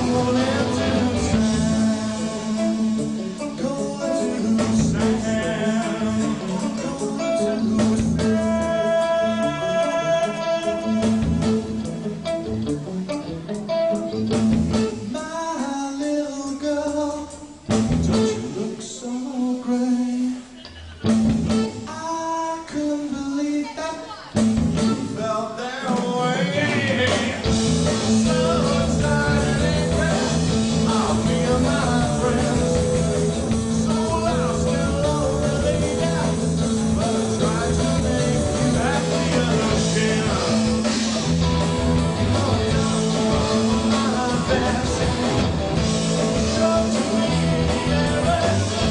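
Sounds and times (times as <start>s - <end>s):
rock song with singer and guitar: 0.0s - 48.9s.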